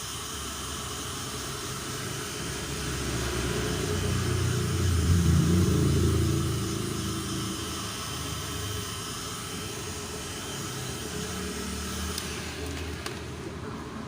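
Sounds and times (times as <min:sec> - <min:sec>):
heat gun blowing hot air: 0:00.0 - 0:13.4.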